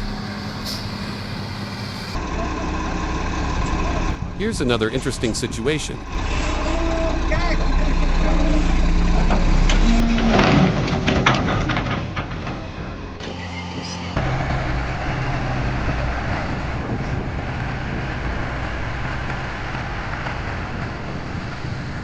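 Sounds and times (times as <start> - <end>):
heavy machinery engine running: 0.0 - 22.0.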